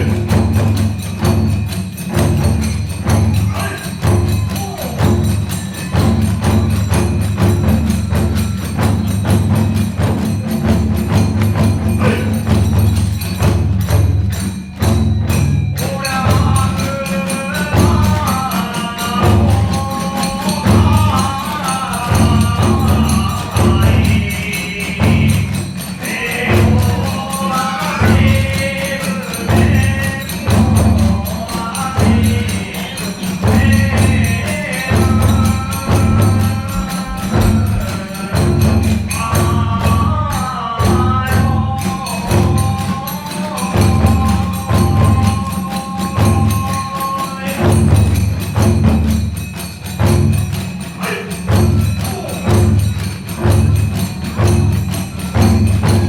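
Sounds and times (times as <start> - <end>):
big drum beating: 0.0 - 56.0
hand cymbals clashing: 0.0 - 56.0
small drums: 0.0 - 56.0.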